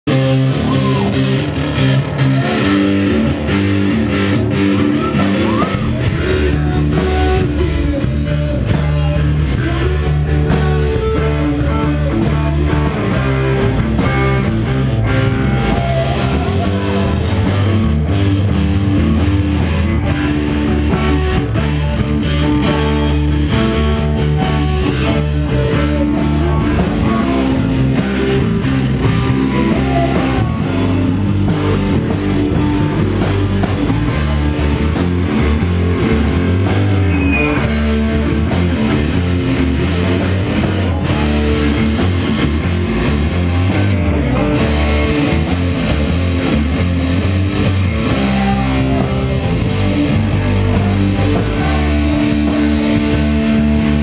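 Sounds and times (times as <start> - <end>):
bass guitar: 0.0 - 54.0
drums: 0.0 - 54.0
loud electric guitar: 0.0 - 54.0.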